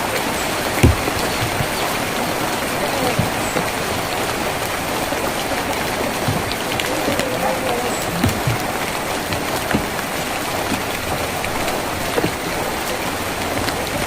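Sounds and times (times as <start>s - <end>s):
heavy raindrops knocking: 0.0s - 14.0s
rain on a tin roof: 0.0s - 14.0s.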